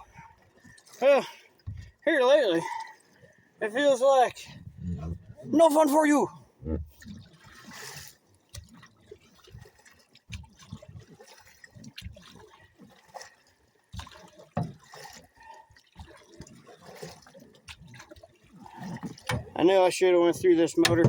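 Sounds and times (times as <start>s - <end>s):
water lapping against boat hull: 0.0s - 21.0s.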